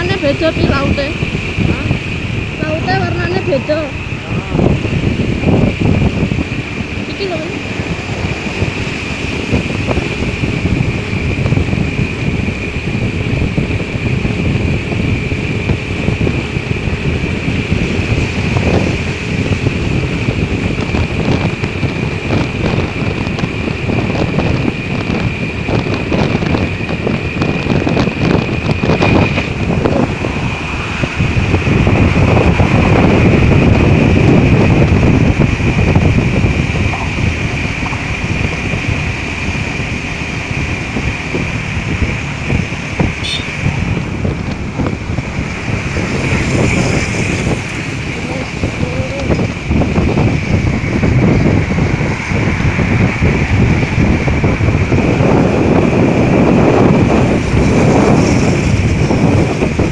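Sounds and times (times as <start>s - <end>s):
road and engine rumble: 0.0s - 59.9s
wind buffeting microphone: 0.0s - 59.9s.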